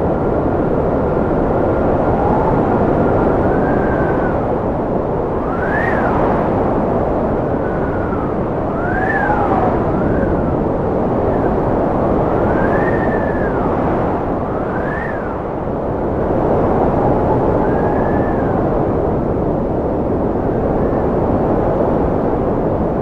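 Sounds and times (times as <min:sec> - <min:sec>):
wind blowing hard with whistling: 0:00.0 - 0:23.0.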